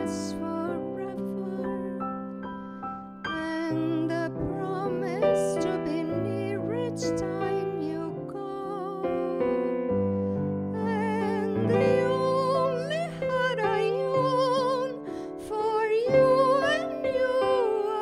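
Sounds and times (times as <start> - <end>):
piano chords: 0.0 - 18.0
woman singing a slow ballad: 0.0 - 18.0.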